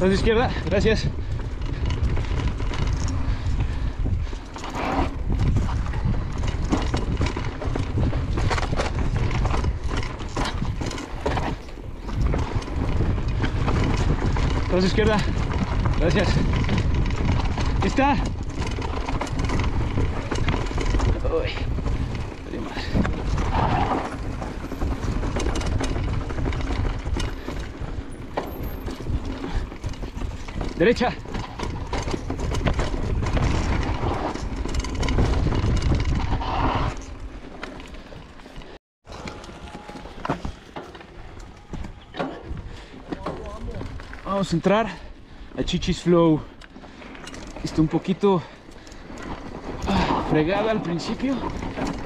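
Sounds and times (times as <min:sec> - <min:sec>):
wind rumble on microphone: 0:00.0 - 0:46.6
bike rattling over bumps: 0:00.0 - 0:52.0
tyres on dirt: 0:00.0 - 0:52.0.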